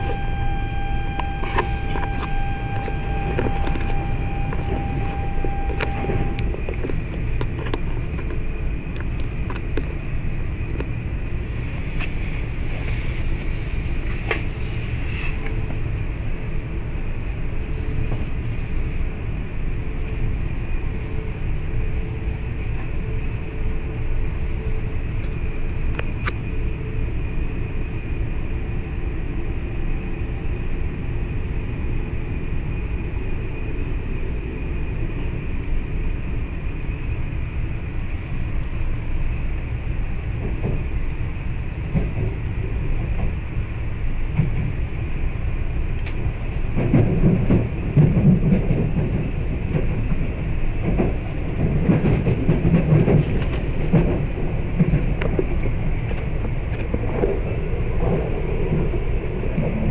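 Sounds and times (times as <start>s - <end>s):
train running low rumble: 0.0s - 59.9s.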